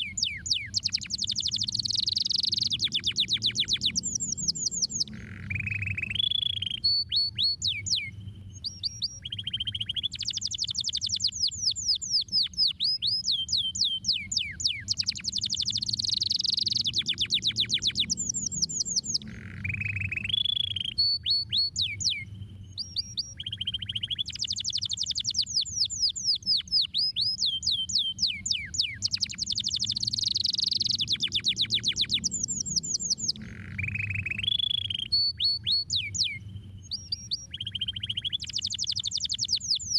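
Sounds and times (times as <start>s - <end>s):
canary singing trills: 0.0s - 39.9s
low steady hum: 0.0s - 39.9s.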